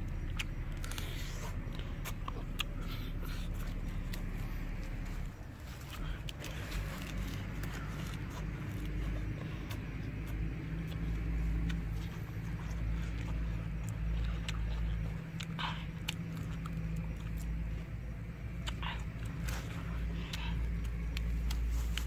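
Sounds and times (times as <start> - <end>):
person chewing and crunching: 0.0 - 22.0
steady low rumble: 0.0 - 22.0.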